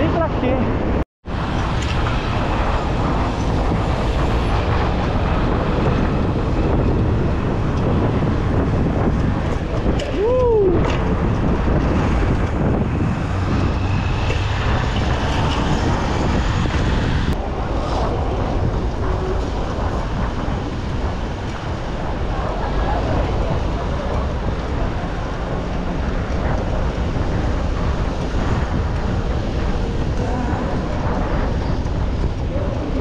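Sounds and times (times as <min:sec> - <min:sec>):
wind rush on microphone: 0:00.0 - 0:33.0.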